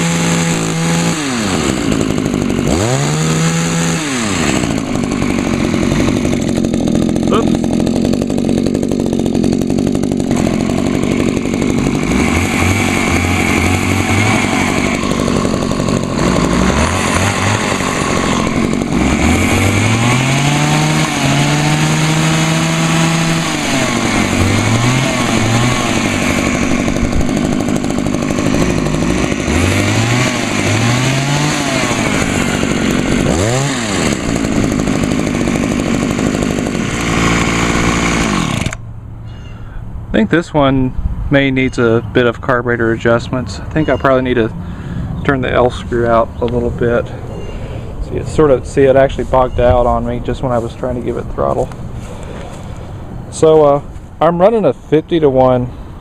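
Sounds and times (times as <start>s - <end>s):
hedge trimmer engines revving: 0.0s - 38.9s, 41.6s - 55.7s.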